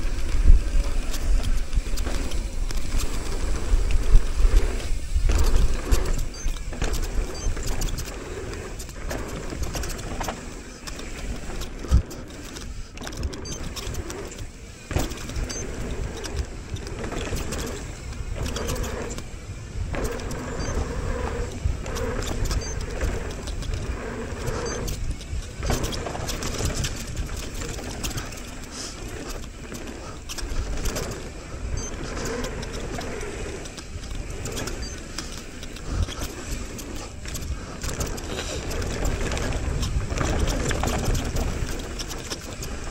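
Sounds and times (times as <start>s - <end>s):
bike tyres on dirt trail: 0.0s - 42.9s.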